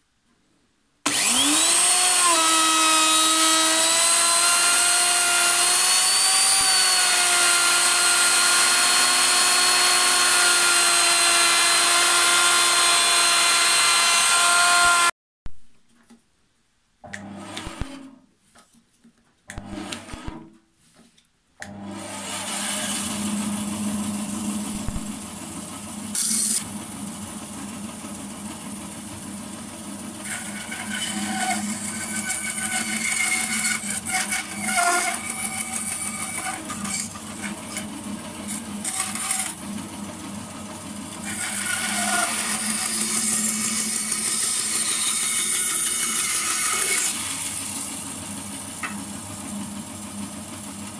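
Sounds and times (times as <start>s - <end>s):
bandsaw running with steady hum: 1.0s - 15.1s, 21.7s - 50.9s.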